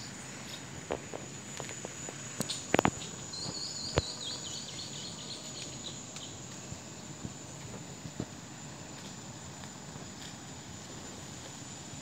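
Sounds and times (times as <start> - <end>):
high-pitched insect drone: 0.0 - 12.0
outdoor background noise: 0.0 - 12.0.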